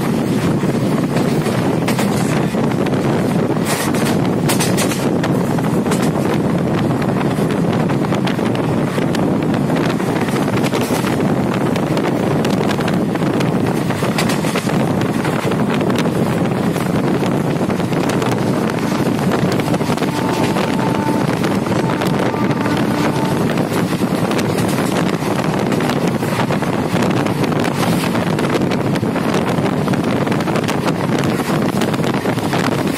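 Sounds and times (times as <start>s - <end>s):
moving train: 0.0s - 32.9s
wind buffeting microphone: 0.0s - 32.9s.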